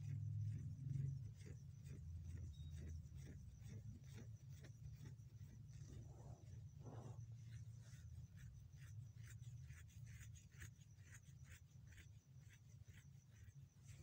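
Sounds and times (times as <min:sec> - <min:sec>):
soft ticks or scratches: 0:00.0 - 0:14.0
steady low hum: 0:00.0 - 0:14.0
thin high whine: 0:00.0 - 0:14.0.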